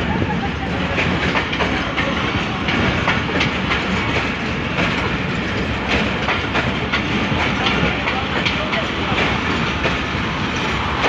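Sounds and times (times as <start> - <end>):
train coaches rumbling: 0.0 - 11.0
wheels clacking: 0.0 - 11.0.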